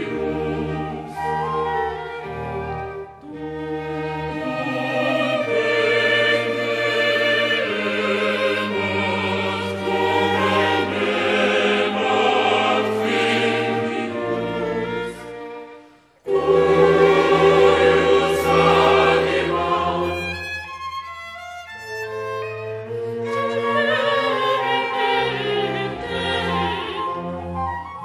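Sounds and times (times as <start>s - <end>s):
choir with orchestra: 0.0s - 28.0s.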